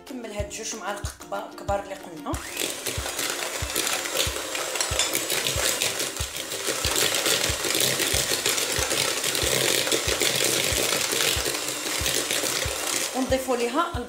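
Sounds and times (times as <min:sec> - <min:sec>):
electric hand mixer whirring: 0:02.3 - 0:14.0.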